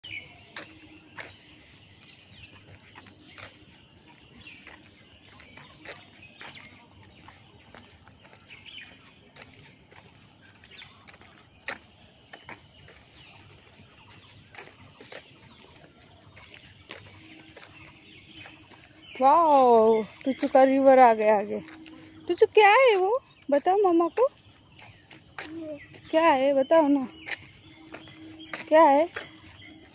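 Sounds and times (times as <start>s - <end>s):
insect chorus: 0.0s - 29.9s.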